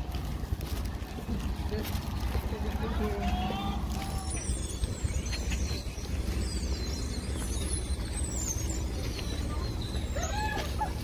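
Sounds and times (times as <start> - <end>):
traffic rumble: 0.0 - 11.0
wind: 0.0 - 11.0.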